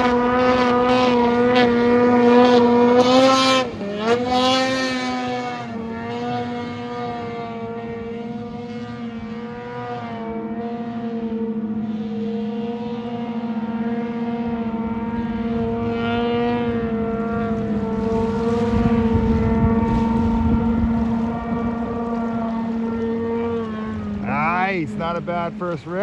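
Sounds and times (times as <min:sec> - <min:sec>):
snowmobile engine at high revs: 0:00.0 - 0:26.0.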